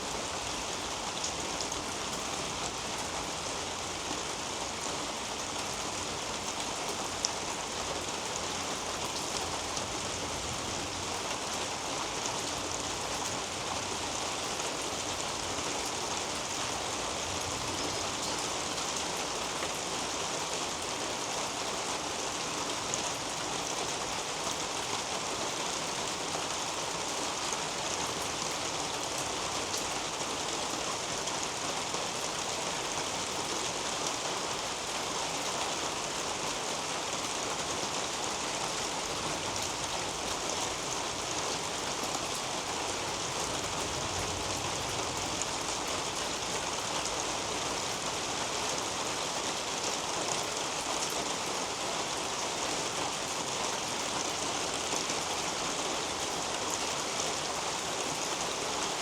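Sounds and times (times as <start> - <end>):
rain pattering on foliage: 0.0 - 59.0.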